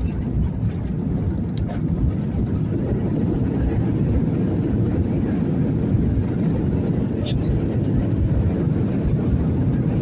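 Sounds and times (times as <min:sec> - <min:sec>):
jet engines low rumble: 0:00.0 - 0:10.0.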